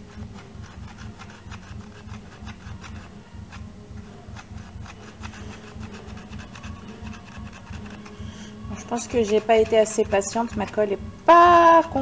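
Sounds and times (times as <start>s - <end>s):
glue gun clicking and scraping: 0.0s - 10.9s
steady low hum: 0.0s - 12.0s.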